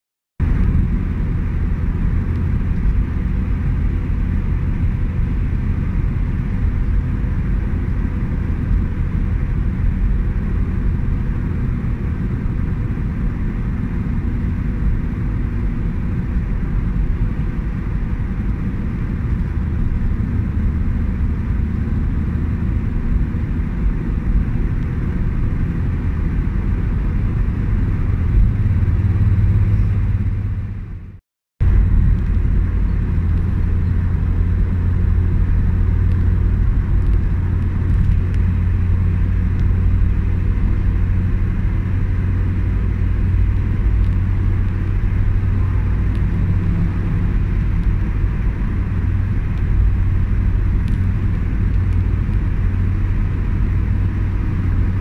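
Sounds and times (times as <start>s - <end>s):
car engine and tyre rumble: 0.4s - 55.0s.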